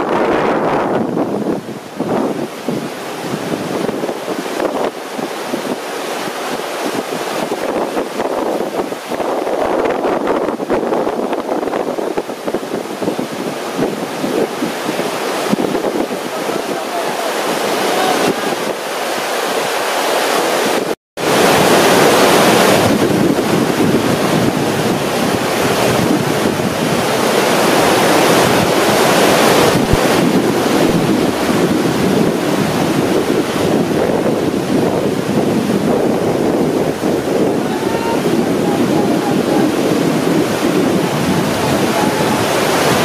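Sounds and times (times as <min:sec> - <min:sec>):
whitewater rapid rushing: 0:00.0 - 0:43.0.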